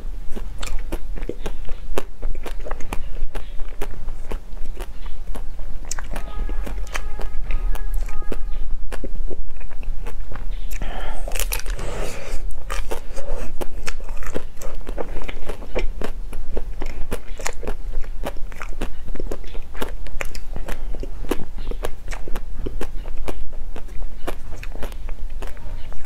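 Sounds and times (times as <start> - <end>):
ice cream bar crunching: 0.0 - 26.0.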